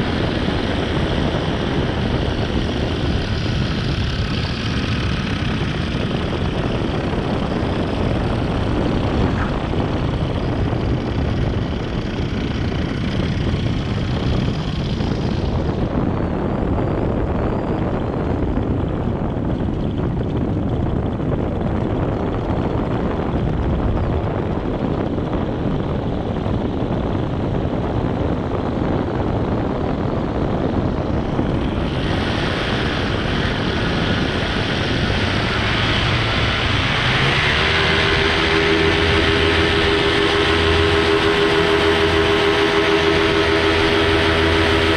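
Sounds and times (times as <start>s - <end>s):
propellers whirring: 0.0s - 44.9s.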